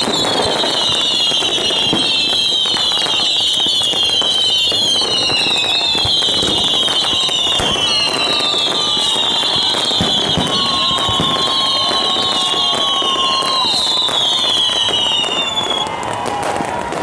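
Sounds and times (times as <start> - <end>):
fireworks cracks and bangs: 0.0 - 17.0
whistling fireworks shrieking: 0.0 - 17.0.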